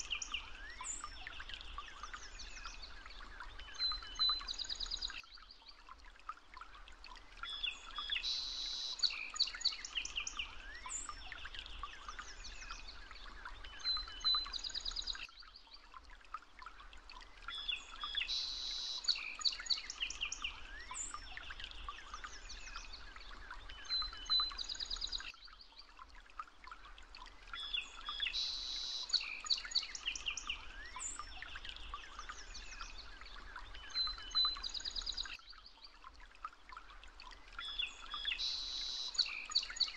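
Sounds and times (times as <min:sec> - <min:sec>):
soft steady hiss: 0:00.0 - 0:39.9.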